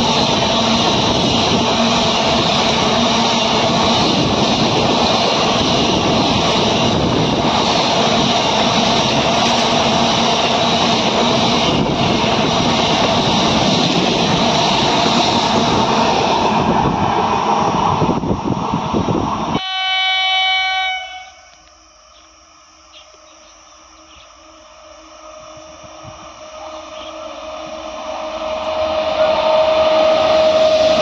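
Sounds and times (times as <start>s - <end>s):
freight train wheels rumbling on rails: 0.0s - 19.9s, 22.9s - 31.0s.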